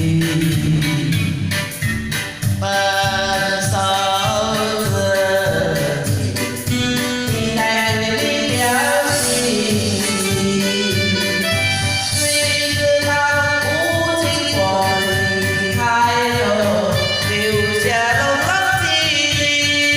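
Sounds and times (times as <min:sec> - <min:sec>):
instrumental backing with steady beat: 0:00.0 - 0:19.9
woman singing slow song: 0:02.6 - 0:11.5, 0:12.2 - 0:19.9.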